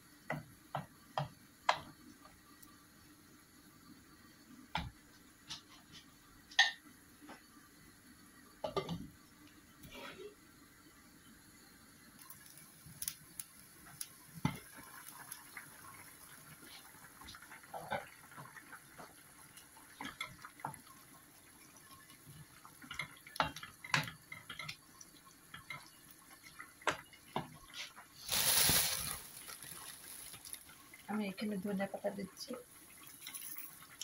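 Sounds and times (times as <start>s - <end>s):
curry bubbling in a pot: 0.0s - 34.0s.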